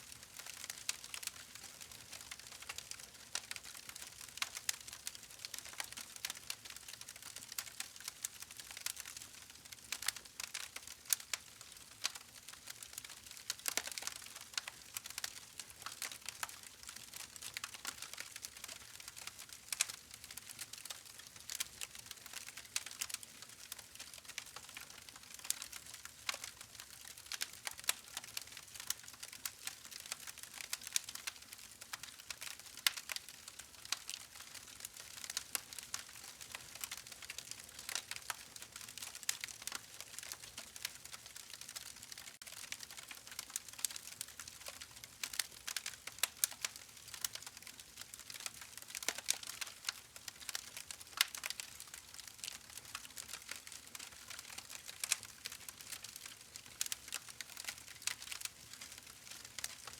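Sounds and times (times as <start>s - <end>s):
campfire crackling and popping: 0.2s - 59.9s.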